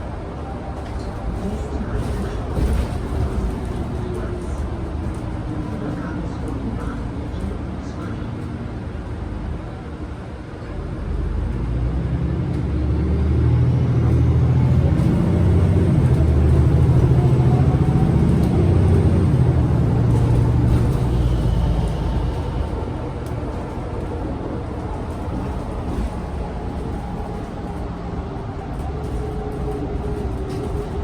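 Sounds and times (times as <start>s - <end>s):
bus engine pulling away: 0.0s - 31.0s.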